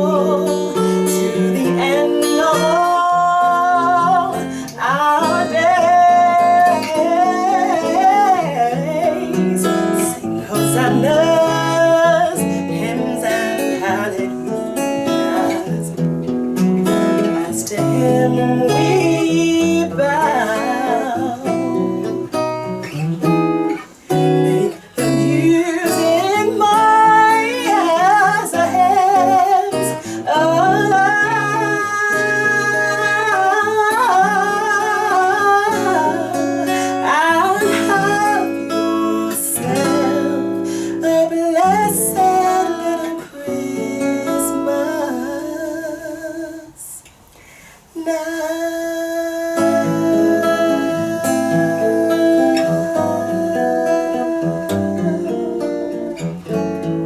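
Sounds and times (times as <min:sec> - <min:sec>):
person singing: 0:00.0 - 0:47.2, 0:47.8 - 0:56.6
strummed acoustic guitar: 0:00.0 - 0:57.0.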